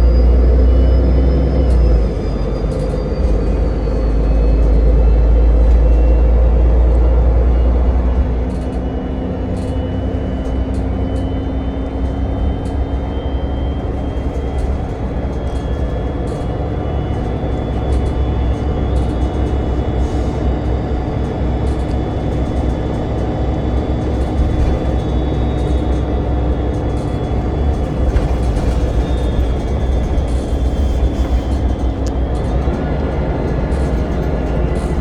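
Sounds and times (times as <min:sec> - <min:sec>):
vehicle ride rumble: 0:00.0 - 0:35.0.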